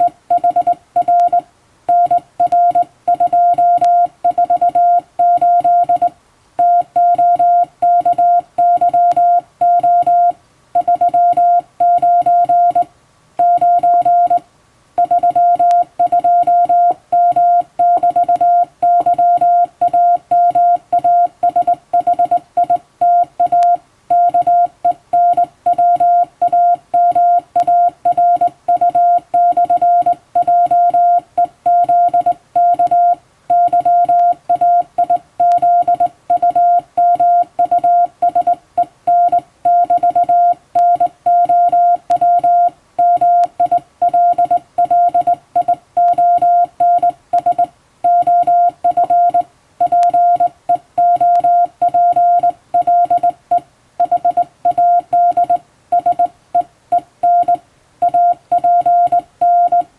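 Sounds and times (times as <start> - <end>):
morse code tone beeping: 0.0 - 14.4, 15.0 - 59.9.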